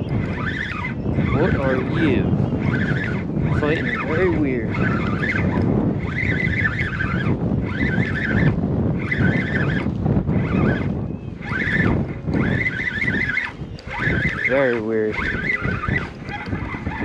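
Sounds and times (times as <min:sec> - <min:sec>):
fishing reel cranking: 0:00.0 - 0:17.0
wind buffeting microphone: 0:00.0 - 0:17.0.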